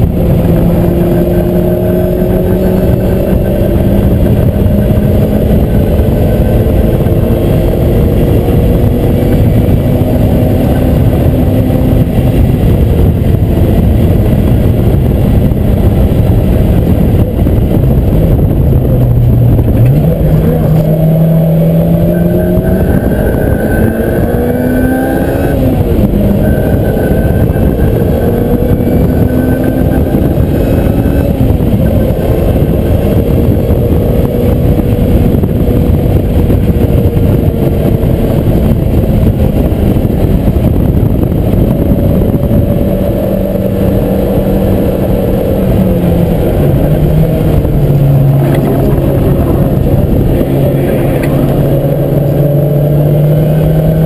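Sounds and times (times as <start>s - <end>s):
car engine running hard: 0.0s - 54.0s
wind and road noise: 0.0s - 54.0s.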